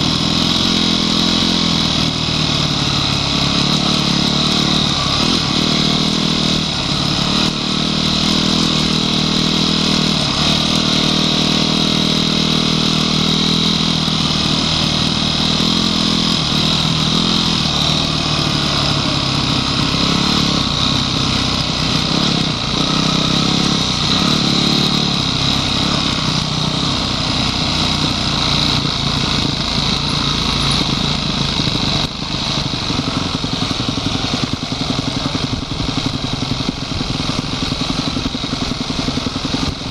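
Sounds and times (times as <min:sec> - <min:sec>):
dirt bike engine revving: 0:00.0 - 0:39.9
other trail bikes riding: 0:00.0 - 0:39.9.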